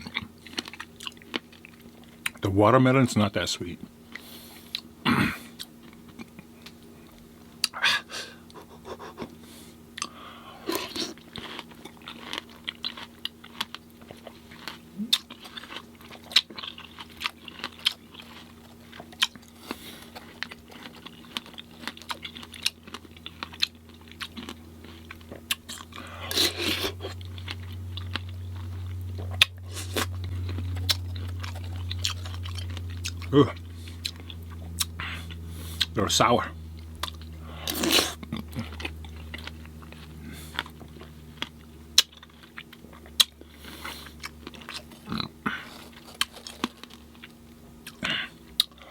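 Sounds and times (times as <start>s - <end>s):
low steady hum: 0.0s - 48.9s
wet crunching chewing of fruit: 0.0s - 48.9s.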